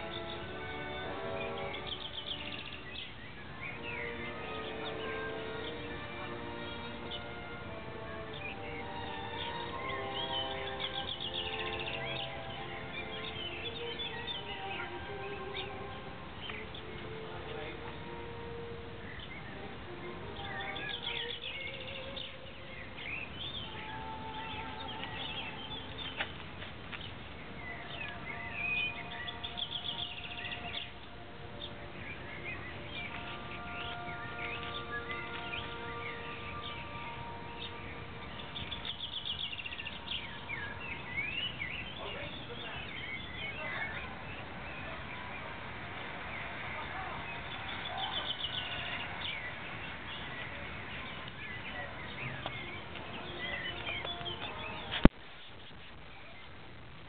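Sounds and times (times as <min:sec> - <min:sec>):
small birds chirping: 0:00.0 - 0:57.0
steady background noise: 0:00.0 - 0:57.0.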